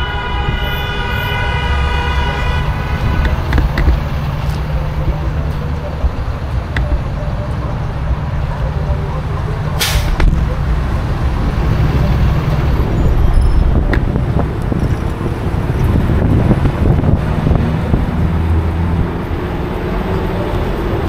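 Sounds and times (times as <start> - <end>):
street traffic: 0.0 - 21.0
wind rumble on microphone: 2.1 - 8.7, 10.1 - 21.0.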